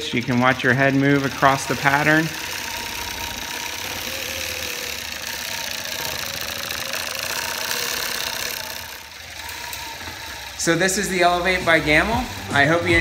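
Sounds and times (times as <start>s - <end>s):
quilting machine motor hum: 0.0s - 13.0s.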